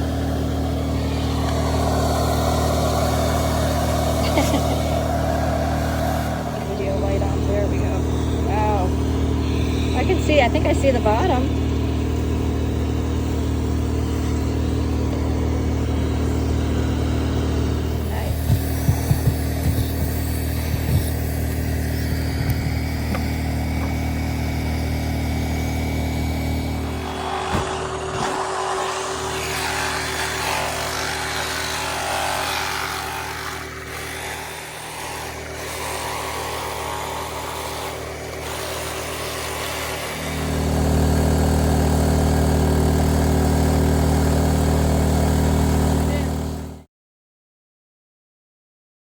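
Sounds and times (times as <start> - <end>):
motor humming: 0.0 - 46.8.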